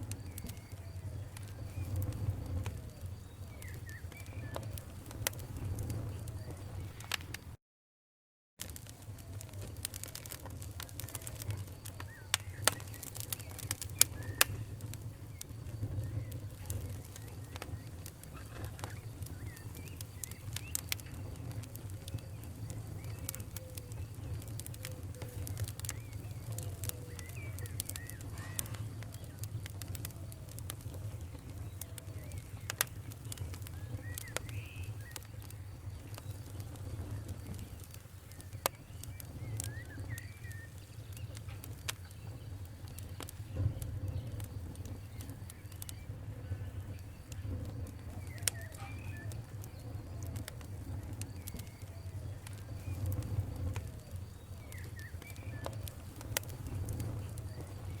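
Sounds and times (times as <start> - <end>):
wood fire crackling in fireplace: 0.0 - 7.6, 8.6 - 58.0
faint squeaky whistles: 0.1 - 7.2, 10.9 - 58.0.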